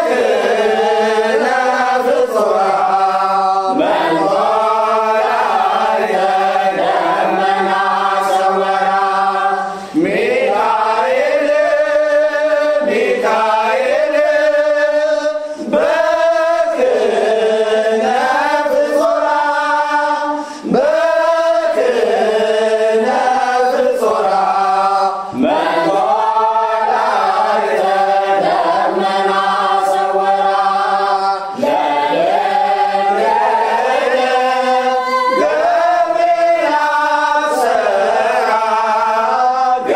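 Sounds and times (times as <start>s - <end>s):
voices chanting a hymn: 0.0s - 39.9s.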